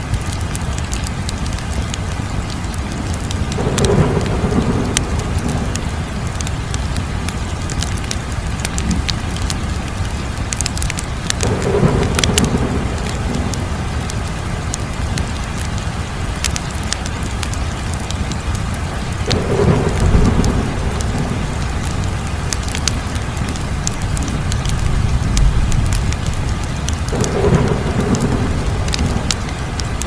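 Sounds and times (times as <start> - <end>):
low rumble of flames: 0.0 - 30.0
fire popping: 0.1 - 15.8, 16.4 - 30.0.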